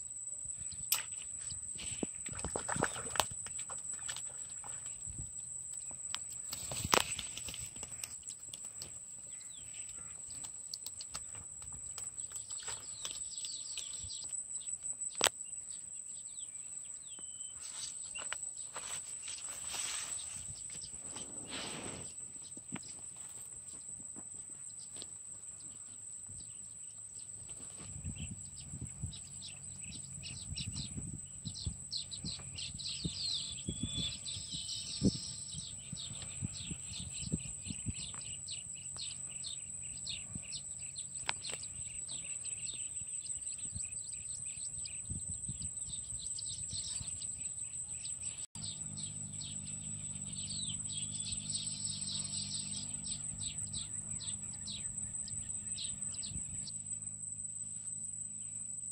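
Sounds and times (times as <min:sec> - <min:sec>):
birds chirping and warbling: 0:00.5 - 0:24.0, 0:24.6 - 0:58.7.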